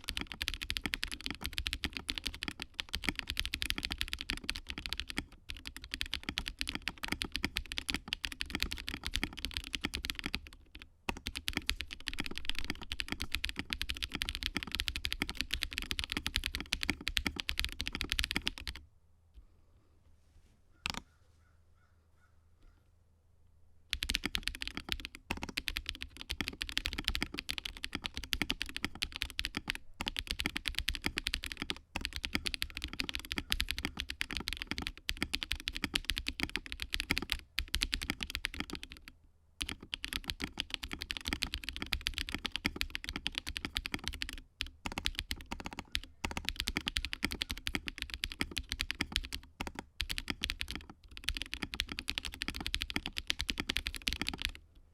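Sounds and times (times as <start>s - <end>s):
fast typing on mechanical keyboard: 0.0s - 18.8s, 23.9s - 54.6s.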